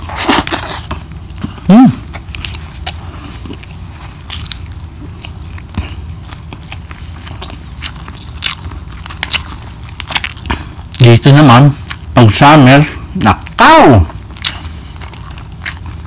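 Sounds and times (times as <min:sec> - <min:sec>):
chewing with wet smacks: 0:00.0 - 0:16.0.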